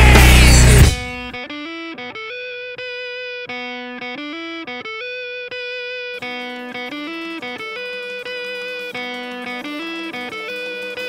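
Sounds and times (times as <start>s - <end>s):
electric guitar held ringing notes: 0.0s - 11.0s.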